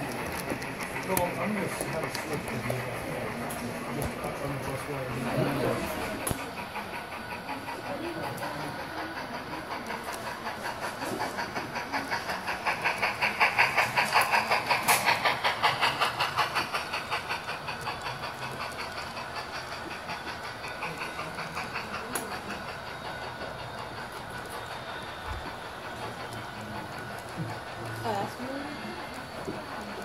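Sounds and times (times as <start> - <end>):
model steam locomotive chuffing: 0.0 - 30.0
model train cars rolling on track: 0.0 - 30.0.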